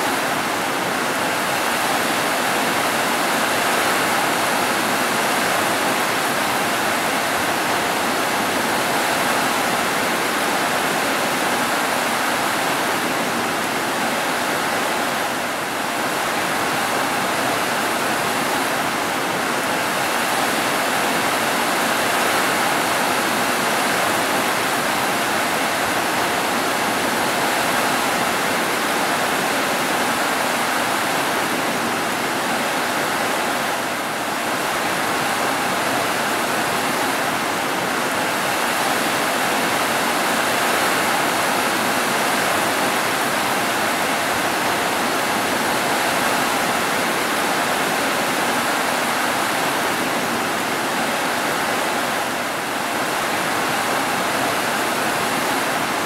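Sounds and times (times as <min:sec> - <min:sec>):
heavy rain on roofs: 0:00.0 - 0:56.0.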